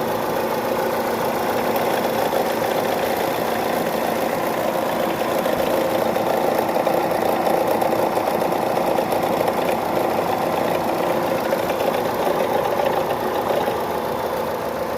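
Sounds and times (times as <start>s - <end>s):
car engine idling with ticking: 0.0s - 14.9s.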